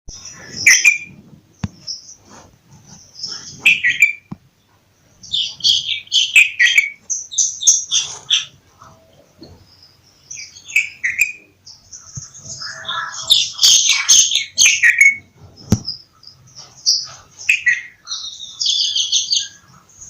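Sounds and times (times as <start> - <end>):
bulbul chirping: 0.1 - 8.6, 9.4 - 19.6.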